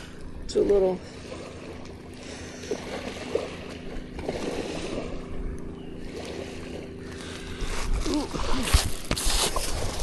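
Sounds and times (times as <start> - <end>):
steady low hum: 0.0 - 10.0
water sloshing and lapping: 0.0 - 10.0.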